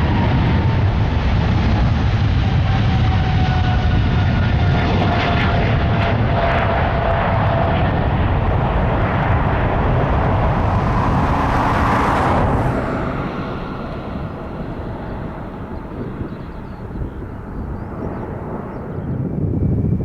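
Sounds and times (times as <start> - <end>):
jet engines roaring with whine: 0.0 - 20.0.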